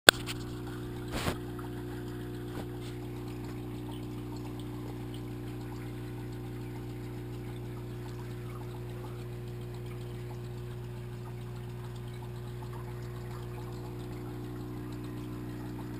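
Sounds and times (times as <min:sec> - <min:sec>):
aquarium pump hum underwater: 0:00.1 - 0:15.9
water trickling and bubbling: 0:00.1 - 0:15.9.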